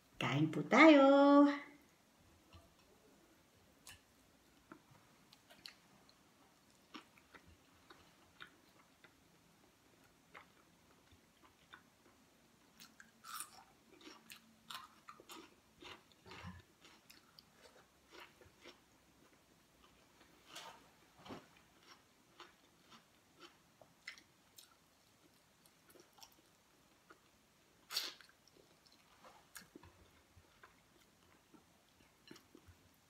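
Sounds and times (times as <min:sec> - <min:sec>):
person chewing food: 0:03.8 - 0:33.0.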